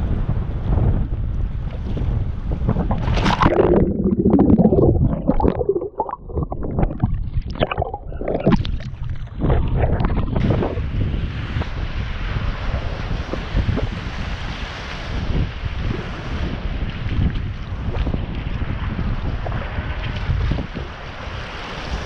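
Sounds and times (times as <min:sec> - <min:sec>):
wind buffeting microphone: 0:00.0 - 0:22.0
water splashing around kayak: 0:01.2 - 0:22.0
rushing surf: 0:02.0 - 0:22.0.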